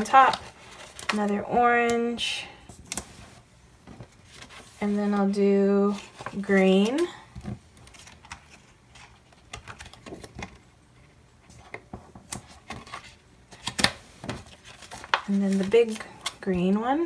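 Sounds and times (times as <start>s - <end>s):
paper and plastic rustling: 0.0s - 1.5s, 2.8s - 10.6s, 11.5s - 16.7s.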